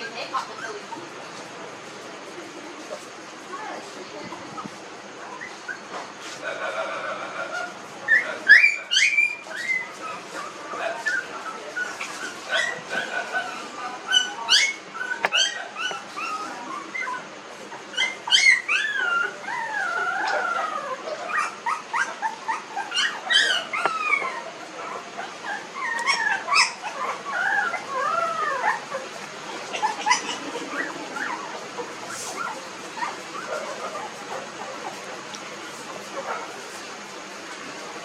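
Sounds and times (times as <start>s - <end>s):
puppies whimpering and squealing: 0.0s - 1.4s, 4.3s - 38.0s.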